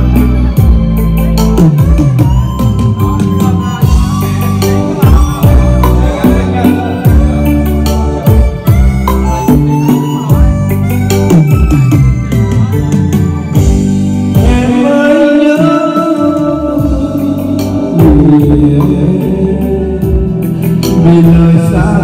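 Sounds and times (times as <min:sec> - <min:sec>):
backing track of drums bass guitar: 0:00.0 - 0:22.0
karaoke singing over loudspeakers: 0:00.0 - 0:22.0.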